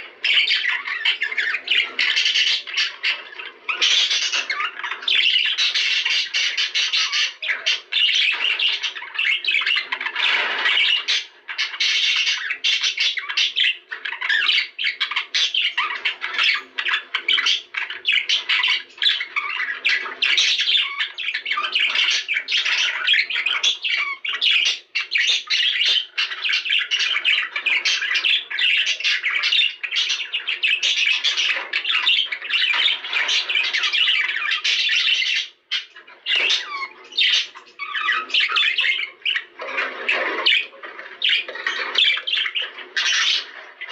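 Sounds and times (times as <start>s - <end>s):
budgerigars chattering and squawking: 0.0s - 43.9s.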